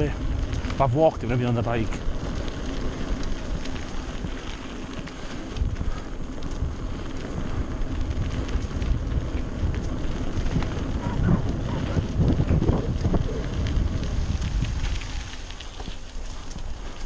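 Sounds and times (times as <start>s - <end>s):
mountain bike rumbling on trail: 0.0s - 17.0s
wind buffeting microphone: 0.0s - 17.0s.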